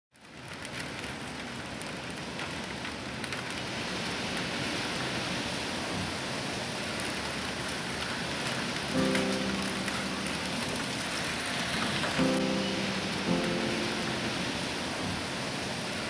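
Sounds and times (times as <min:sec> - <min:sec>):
raindrops ticking on surfaces: 0:00.1 - 0:16.0
heavy rain falling: 0:00.2 - 0:16.0.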